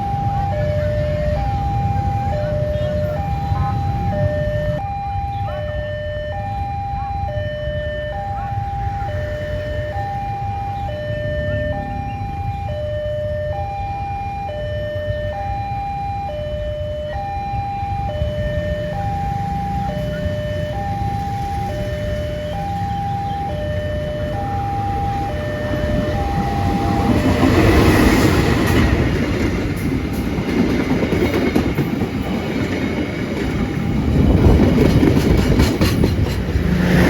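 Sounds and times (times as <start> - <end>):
level crossing two-tone alarm: 0.0 - 33.4.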